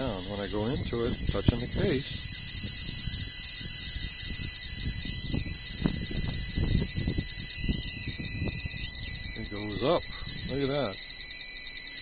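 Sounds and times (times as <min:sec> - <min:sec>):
high-pitched electrical hiss: 0:00.0 - 0:12.0
thin continuous whine: 0:00.0 - 0:12.0.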